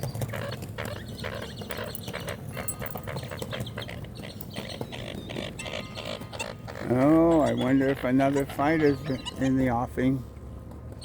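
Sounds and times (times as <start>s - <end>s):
coots clucking calls: 0.0s - 11.0s.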